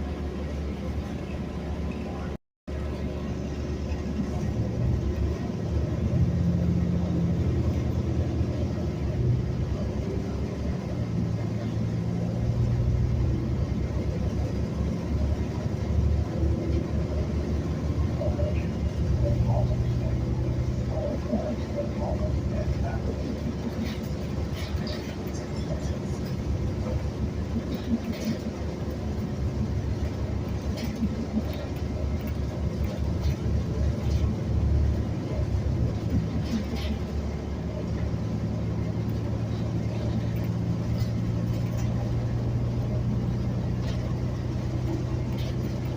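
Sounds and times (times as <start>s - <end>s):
bus engine and road rumble: 0.0s - 45.9s
humming engine tone: 0.0s - 45.9s.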